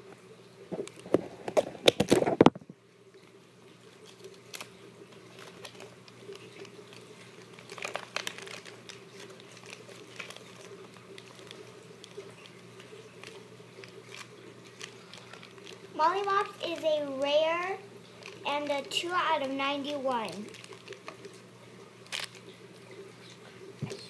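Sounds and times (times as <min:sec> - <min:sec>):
plastic packaging crinkling: 0:00.7 - 0:02.6, 0:03.2 - 0:24.0.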